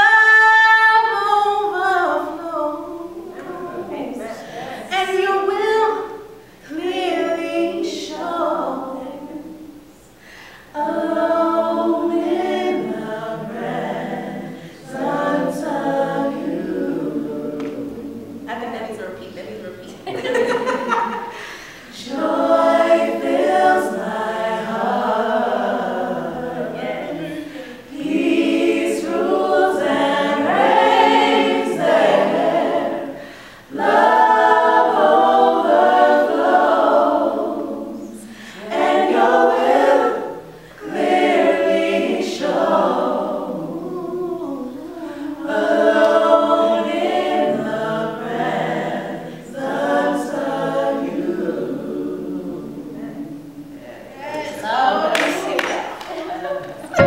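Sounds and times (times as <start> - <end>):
group singing a cappella in harmony: 0.0 - 19.1, 20.0 - 57.0.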